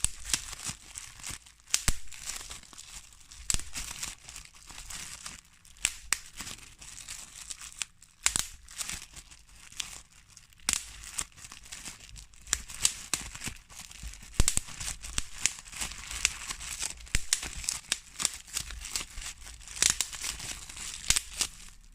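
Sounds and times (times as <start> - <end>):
bubble wrap popping: 0.0 - 21.9
plastic sheet crinkling: 0.0 - 21.9.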